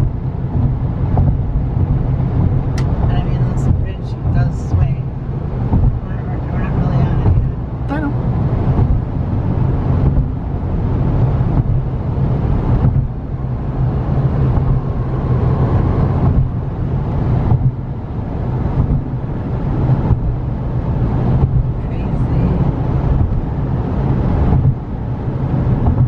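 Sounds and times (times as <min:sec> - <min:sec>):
car road rumble: 0:00.0 - 0:26.0
wind buffeting microphone: 0:00.0 - 0:26.0.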